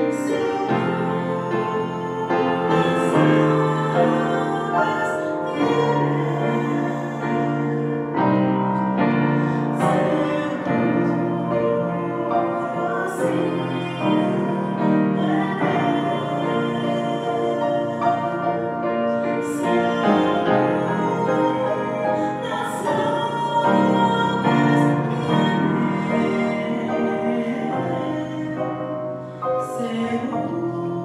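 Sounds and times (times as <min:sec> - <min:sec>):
piano accompaniment: 0:00.0 - 0:31.0
woman singing church song: 0:00.0 - 0:31.0.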